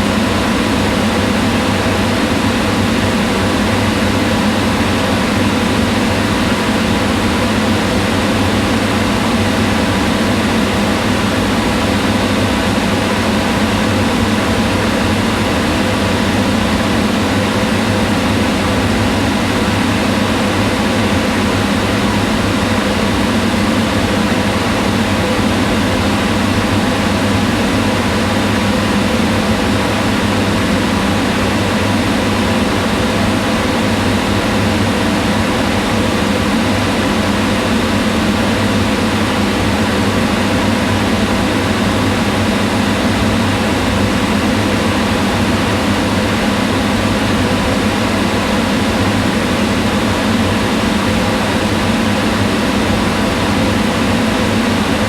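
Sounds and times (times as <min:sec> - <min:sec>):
range hood fan whirring: 0:00.0 - 0:55.0.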